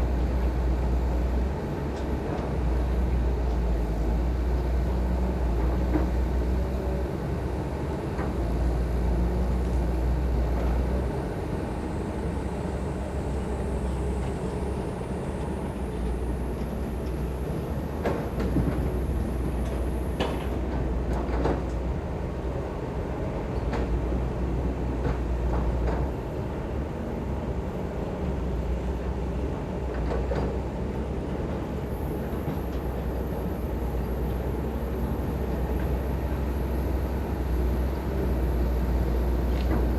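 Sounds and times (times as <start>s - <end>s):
construction machinery engine rumble: 0.0s - 39.9s.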